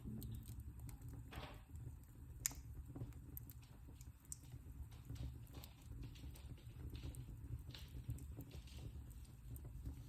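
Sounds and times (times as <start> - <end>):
faint fire crackles: 0.0 - 10.0
fire rumbling in fireplace: 0.0 - 10.0.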